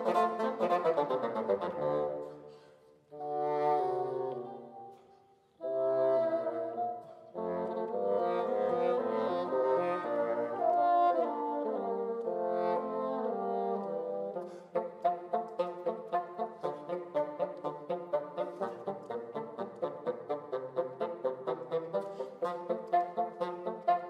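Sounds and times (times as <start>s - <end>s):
bassoon duet: 0.0s - 24.0s.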